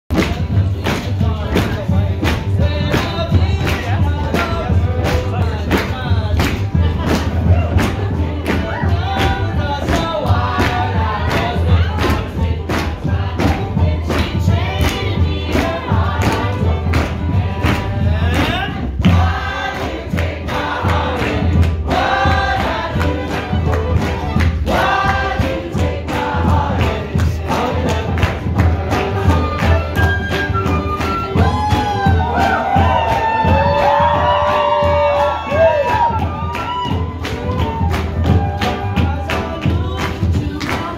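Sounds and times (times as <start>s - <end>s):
live acoustic band music: 0.1s - 40.9s
voices singing along: 0.2s - 40.9s.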